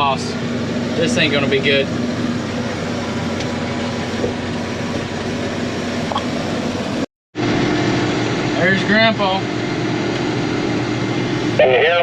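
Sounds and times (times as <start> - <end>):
combine diesel engine hum: 0.0 - 12.0
higher engine hum: 0.0 - 12.0.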